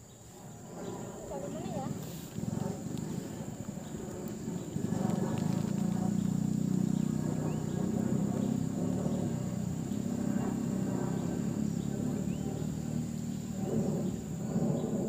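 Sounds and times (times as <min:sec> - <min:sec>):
high-pitched insect drone: 0:00.0 - 0:15.0
low engine-like hum: 0:00.0 - 0:15.0.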